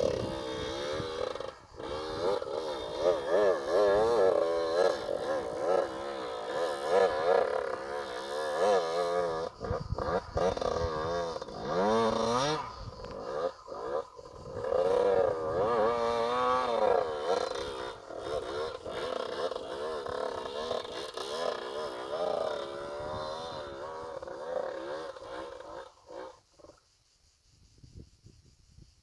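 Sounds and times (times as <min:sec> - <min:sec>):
distant dirt bike engine revving: 0:00.0 - 0:26.8.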